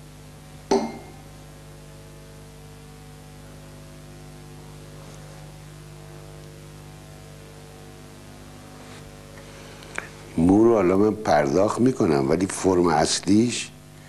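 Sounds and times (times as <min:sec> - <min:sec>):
electrical mains hum: 0:00.0 - 0:14.0
low hiss: 0:00.0 - 0:14.0.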